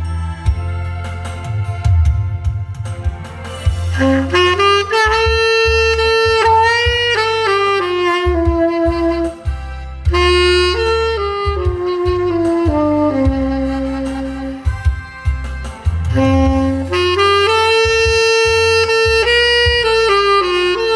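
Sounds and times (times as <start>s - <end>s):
backing track: 0.0s - 20.9s
saxophone playing slow melody: 3.6s - 20.9s.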